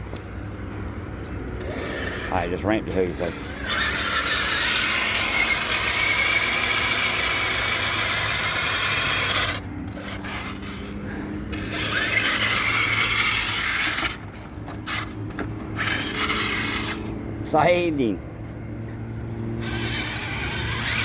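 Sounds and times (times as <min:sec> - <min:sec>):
rc truck motor whine: 0:00.0 - 0:18.1, 0:18.7 - 0:21.0
tyres scrabbling in dirt: 0:00.0 - 0:18.2, 0:19.5 - 0:21.0.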